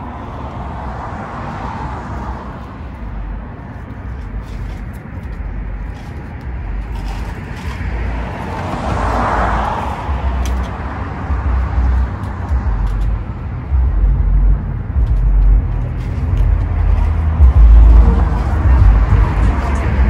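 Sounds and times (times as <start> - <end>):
car passing: 0.0 - 20.0
steady low traffic rumble: 0.0 - 20.0.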